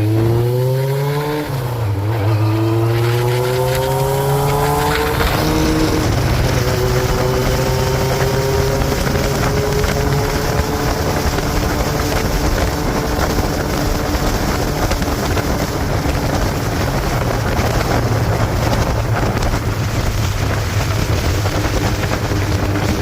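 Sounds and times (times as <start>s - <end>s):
vehicle running noise: 0.0s - 23.0s.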